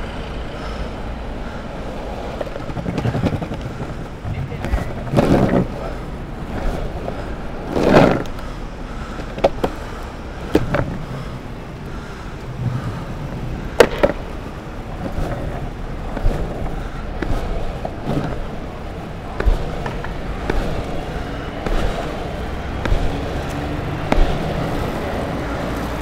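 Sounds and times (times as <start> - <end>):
longboard wheels rumbling on pavement: 0.0 - 26.0
wheels clacking over pavement joints: 0.0 - 26.0.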